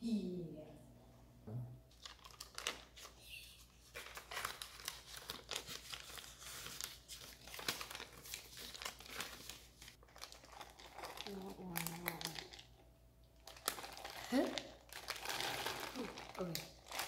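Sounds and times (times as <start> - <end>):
paper wrapper crinkling and tearing: 1.9 - 12.8, 13.4 - 17.0.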